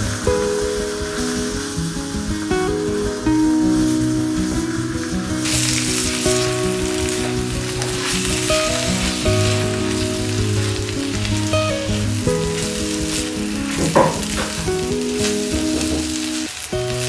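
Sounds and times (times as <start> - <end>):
background music: 0.0 - 17.0
food sizzling in a pan: 0.0 - 17.0.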